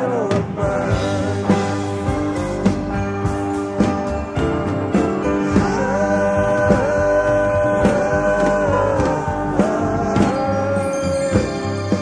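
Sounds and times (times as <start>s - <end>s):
bass: 0.0s - 12.0s
guitar: 0.0s - 12.0s
sliding lead notes: 0.0s - 12.0s.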